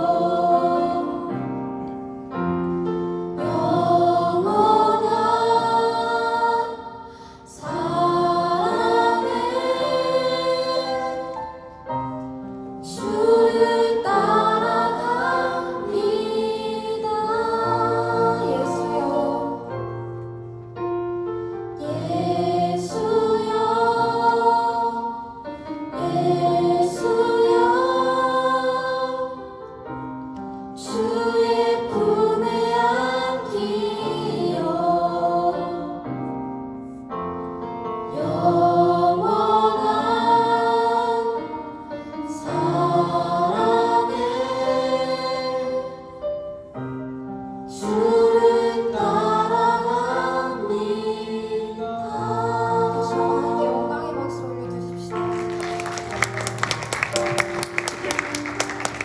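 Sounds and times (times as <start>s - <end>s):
choir singing worship song: 0.0s - 59.0s.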